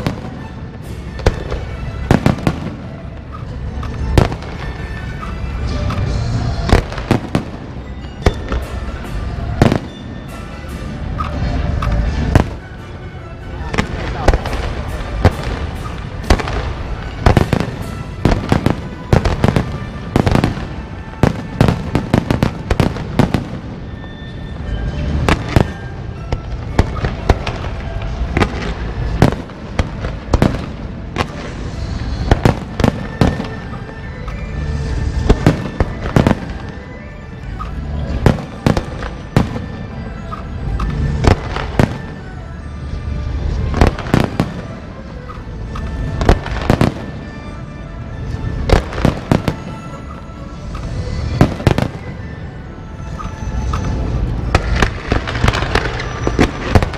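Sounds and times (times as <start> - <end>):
fireworks and firecrackers banging: 0.0 - 56.9
music playing: 0.0 - 56.9.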